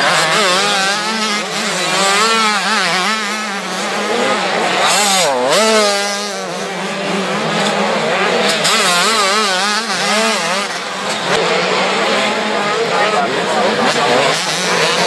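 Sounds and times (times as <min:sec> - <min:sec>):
motocross bikes racing: 0:00.0 - 0:15.0.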